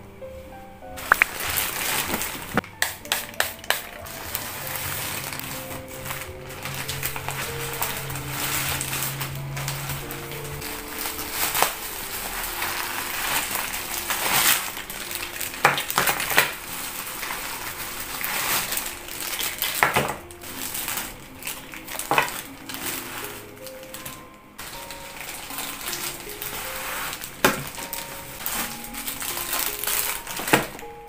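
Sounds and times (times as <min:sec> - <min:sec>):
bubble wrap and plastic bags crinkling: 0:00.9 - 0:31.0.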